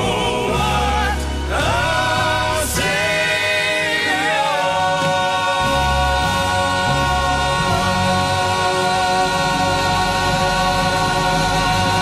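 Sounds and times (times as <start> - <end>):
bass and drums: 0.0 - 12.0
male vocal group sustained chord: 0.0 - 12.0.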